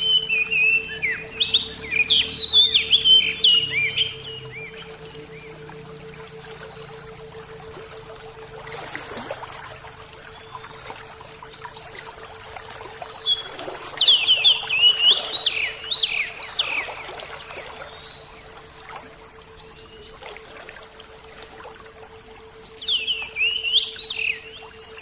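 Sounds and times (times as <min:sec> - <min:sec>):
faint steady hum: 0:00.0 - 0:25.0
water trickling: 0:00.0 - 0:25.0.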